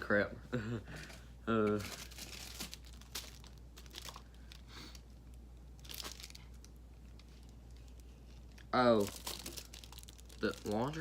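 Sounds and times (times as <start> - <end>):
packaging crinkling: 1.0 - 11.0.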